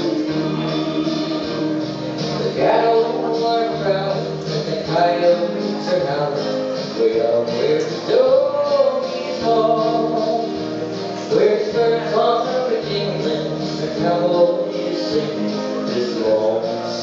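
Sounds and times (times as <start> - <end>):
backing track with guitar: 0.0 - 17.0
man singing into microphone: 0.0 - 17.0.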